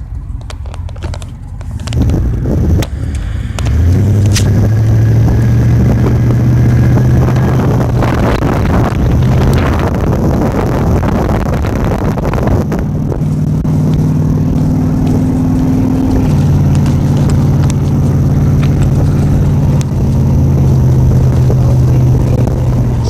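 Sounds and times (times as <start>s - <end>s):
vehicle engine running: 0.0s - 23.0s
wind buffeting microphone: 0.4s - 23.0s.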